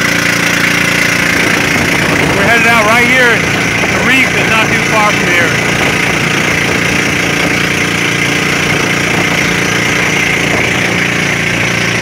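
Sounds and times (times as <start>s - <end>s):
boat engine running: 0.0s - 12.0s
rush of wind and water: 0.0s - 12.0s.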